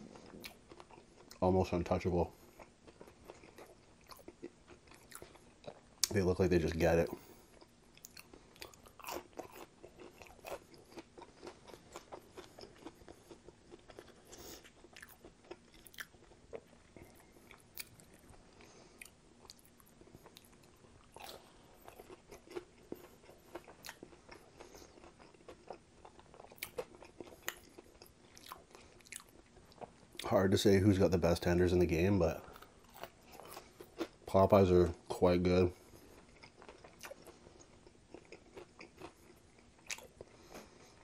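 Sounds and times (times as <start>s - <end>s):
crunchy chewing of fried chicken: 0.0s - 30.3s, 31.4s - 41.0s.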